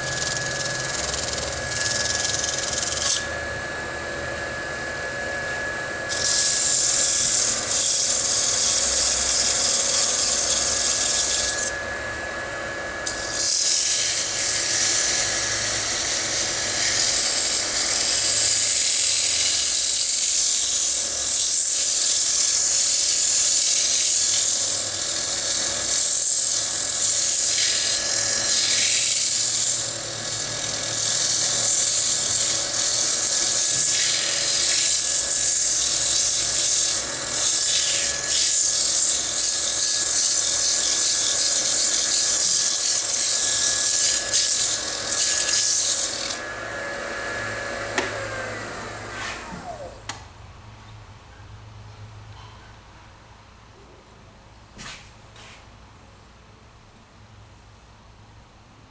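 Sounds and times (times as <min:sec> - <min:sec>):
lathe motor whine: 0:00.0 - 0:50.3.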